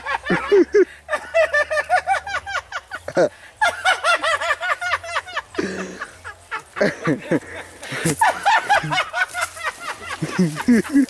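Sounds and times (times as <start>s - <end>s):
person laughing: 0.0s - 11.0s.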